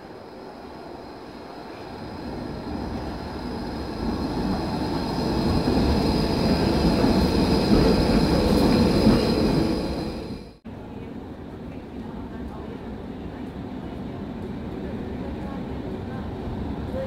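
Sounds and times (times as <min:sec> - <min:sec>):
tram rumble passing: 0:00.0 - 0:17.0.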